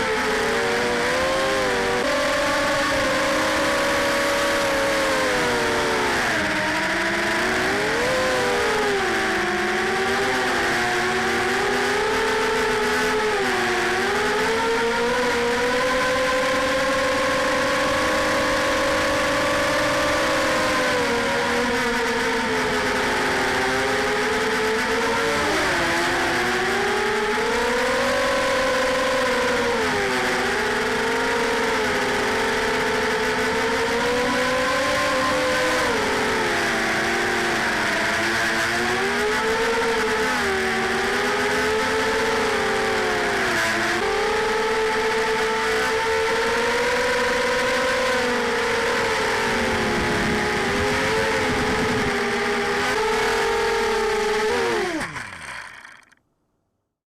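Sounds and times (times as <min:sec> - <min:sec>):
quadcopter motors whining: 0:00.0 - 0:56.2.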